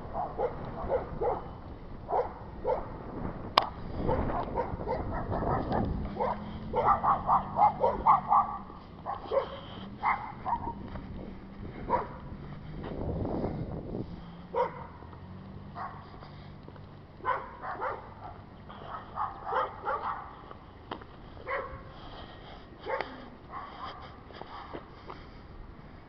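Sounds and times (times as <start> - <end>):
low wind rumble: 0.0 - 26.0.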